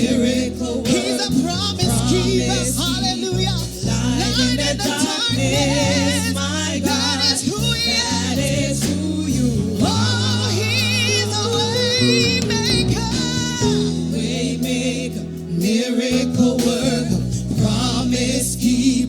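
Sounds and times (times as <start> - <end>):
gospel singing over held chords: 0.0 - 19.0.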